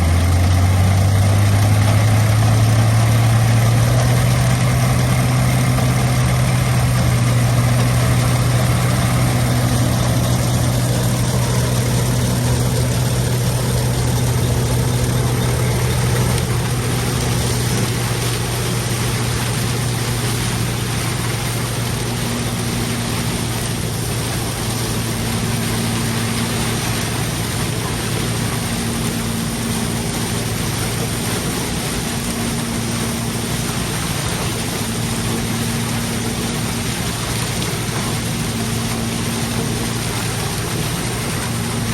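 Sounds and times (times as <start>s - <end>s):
combine engine droning: 0.0s - 41.9s.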